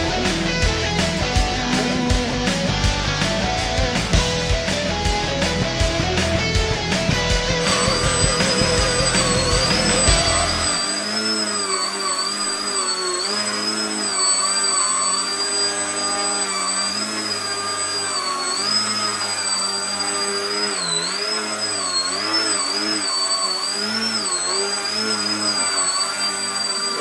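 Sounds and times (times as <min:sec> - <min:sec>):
model airplane motor whining: 0:00.0 - 0:27.0.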